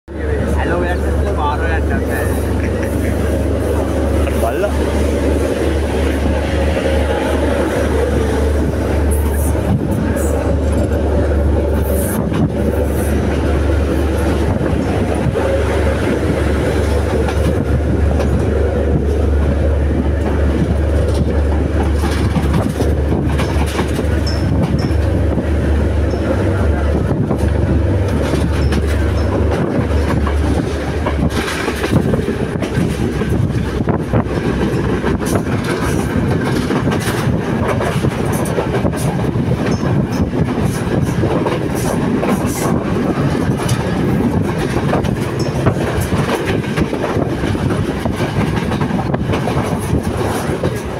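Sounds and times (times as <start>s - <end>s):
clickety-clack over rail joints: 0.1s - 50.9s
heavy low rumble: 0.1s - 50.9s
train wheels rattling on rails: 0.1s - 50.9s.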